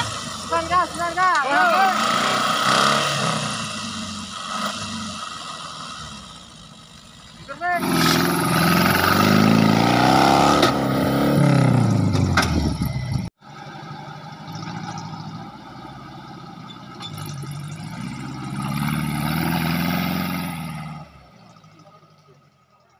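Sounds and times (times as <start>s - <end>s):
buggy engine revving: 0.0s - 22.9s.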